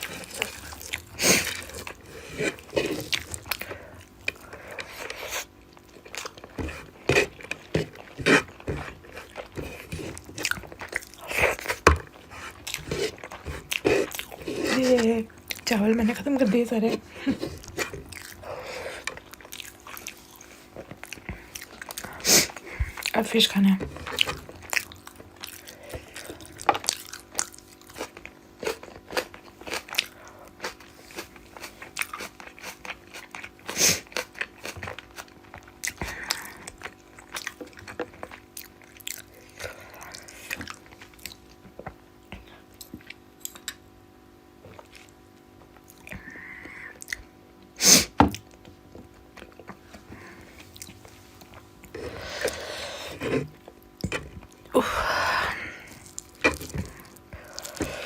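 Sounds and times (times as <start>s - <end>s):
wet chewing: 0.0s - 43.8s, 44.6s - 47.3s, 48.3s - 54.8s, 55.6s - 58.0s.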